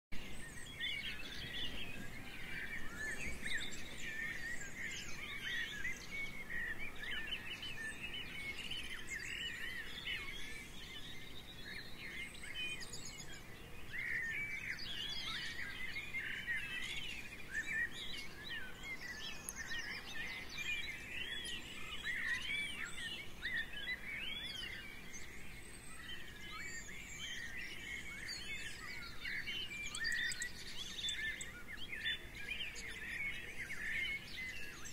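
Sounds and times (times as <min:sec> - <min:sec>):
songbirds chirping and singing: 0:00.2 - 0:34.9.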